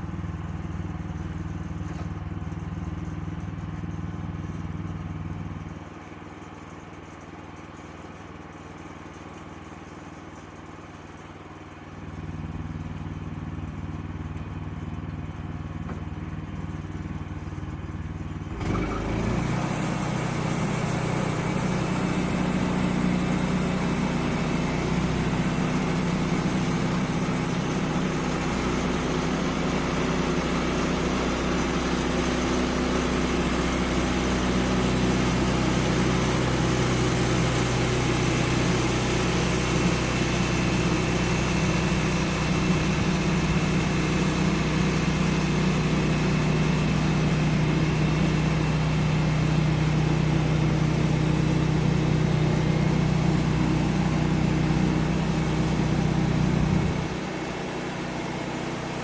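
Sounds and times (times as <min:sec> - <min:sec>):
sawmill engine running: 0:09.8 - 0:59.0.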